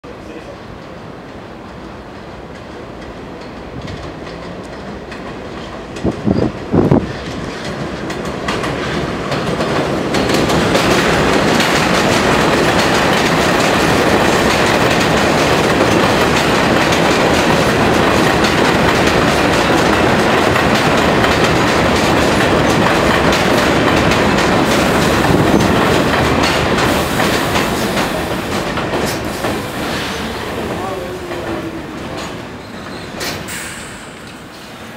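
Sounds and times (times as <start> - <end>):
subway train running past: 0.1 - 34.9
wheels clattering over rail joints: 2.6 - 33.6.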